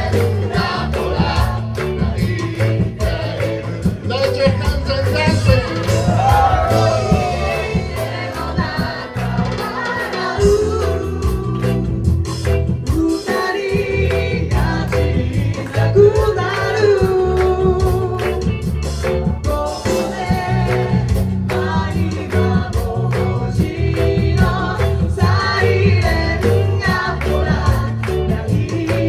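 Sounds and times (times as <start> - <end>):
crowd singing in unison: 0.0 - 29.0
live rock band: 0.0 - 29.0.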